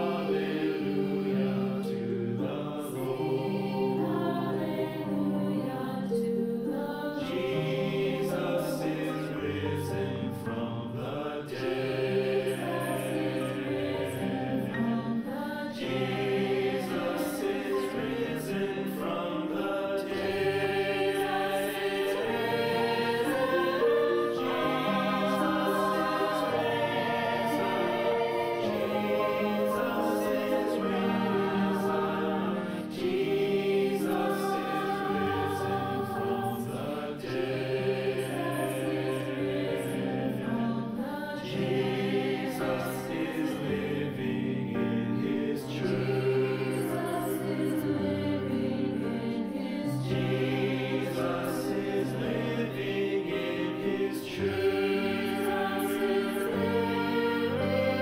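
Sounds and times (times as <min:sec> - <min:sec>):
choir singing long notes: 0:00.0 - 0:58.0.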